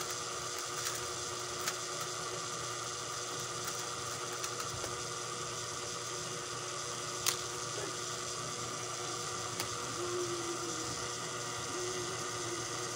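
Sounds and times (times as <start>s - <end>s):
electrical hum and hiss: 0.0s - 12.9s.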